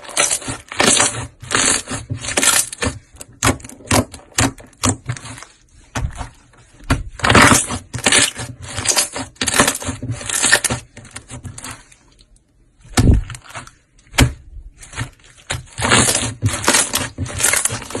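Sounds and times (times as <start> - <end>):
slime crackling and crunching: 0.0 - 6.4, 7.1 - 12.2, 12.9 - 18.0.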